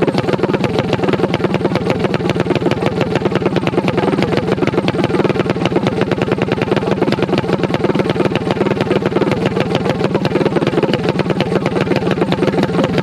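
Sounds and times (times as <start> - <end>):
minibike engine idling: 0.0 - 13.0.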